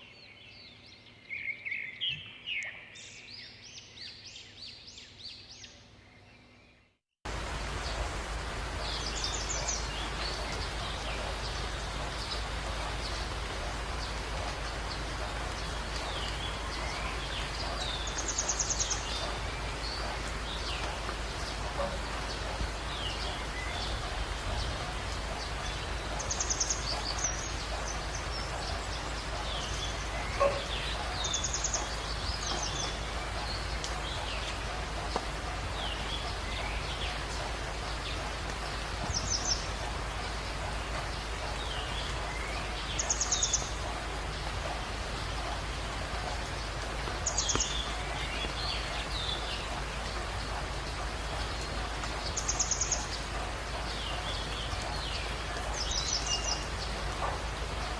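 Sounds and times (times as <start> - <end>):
background hiss: 7.3 - 57.9.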